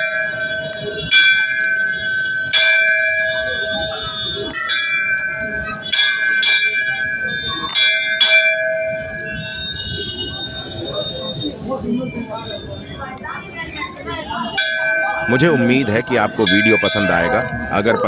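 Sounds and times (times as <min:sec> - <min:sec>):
temple bells clanging: 0:00.0 - 0:11.4, 0:13.8 - 0:18.0.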